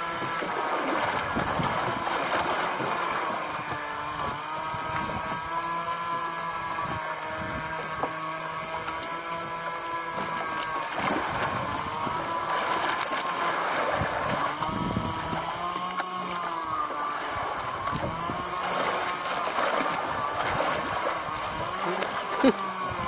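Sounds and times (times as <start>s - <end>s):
boat engine: 0.0s - 23.0s
fishing reel drag ratcheting: 0.0s - 23.0s
water rushing: 0.0s - 23.0s.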